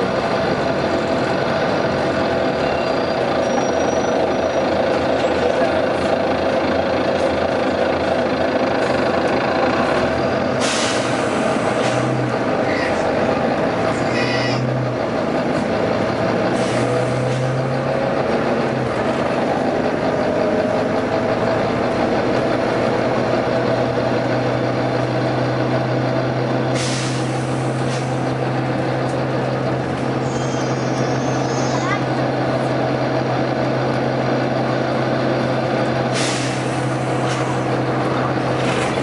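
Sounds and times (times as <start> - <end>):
bus engine running: 0.0 - 39.0.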